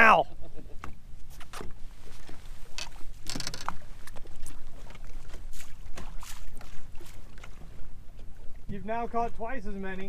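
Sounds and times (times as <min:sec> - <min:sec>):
small waves lapping on boat hull: 0:00.0 - 0:10.0
light knocks and splashes: 0:00.8 - 0:08.8.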